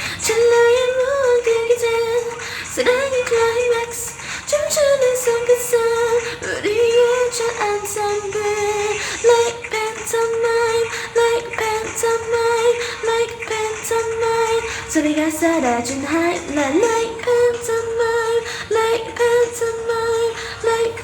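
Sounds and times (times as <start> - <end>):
person singing: 0.0 - 21.0.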